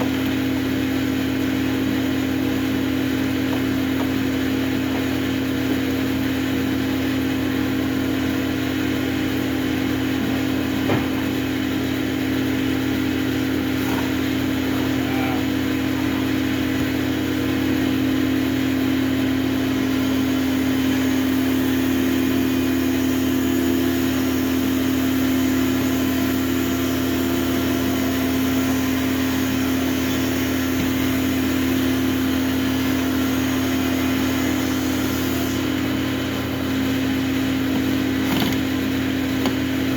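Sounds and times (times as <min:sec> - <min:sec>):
machine motor humming: 0:00.0 - 0:39.9.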